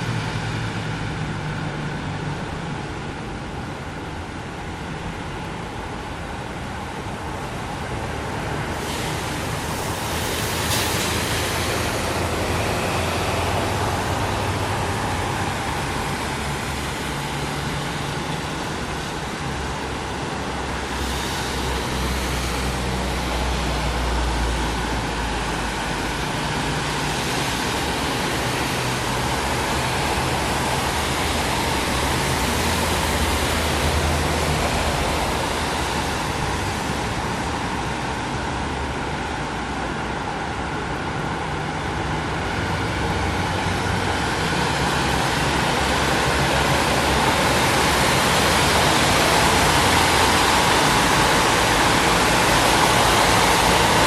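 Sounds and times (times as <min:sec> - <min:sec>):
car engines rumbling: 0:00.0 - 0:54.0
tyres hissing on wet road: 0:00.0 - 0:54.0.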